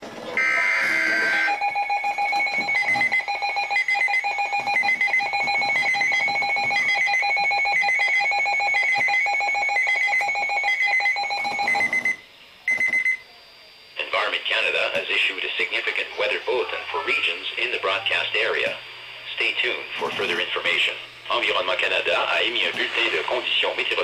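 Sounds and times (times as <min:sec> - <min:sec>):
emergency alert tone: 0:00.3 - 0:24.0.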